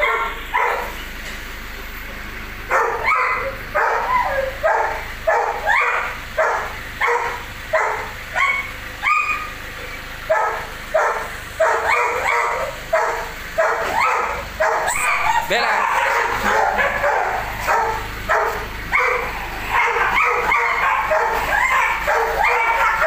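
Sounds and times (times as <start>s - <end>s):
dog barking: 0.0s - 1.0s, 2.7s - 23.0s.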